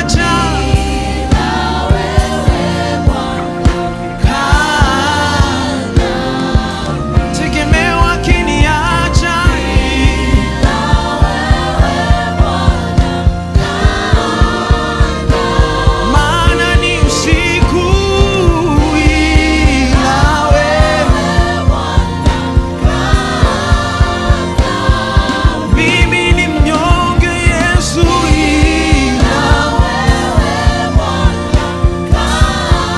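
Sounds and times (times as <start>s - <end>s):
bass: 0.0s - 32.9s
drum beat: 0.0s - 32.9s
keyboard: 0.0s - 32.9s
person singing: 0.0s - 32.9s.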